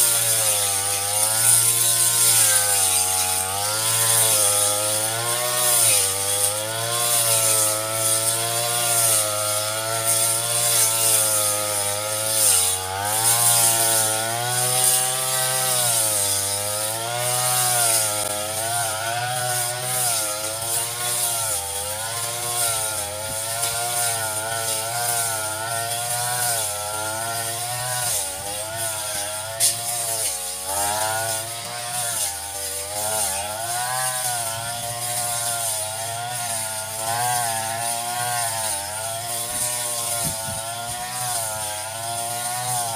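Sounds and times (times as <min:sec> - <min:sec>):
brush cutter engine: 0:00.0 - 0:42.9.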